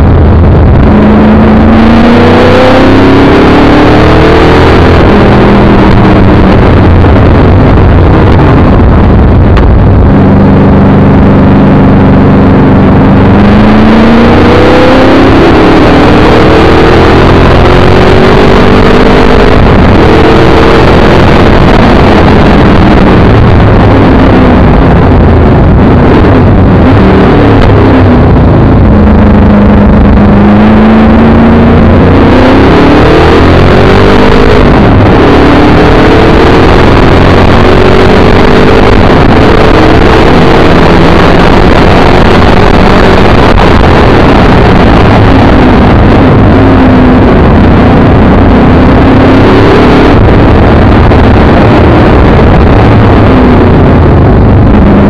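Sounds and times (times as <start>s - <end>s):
car engine accelerating and shifting: 0.0s - 55.0s.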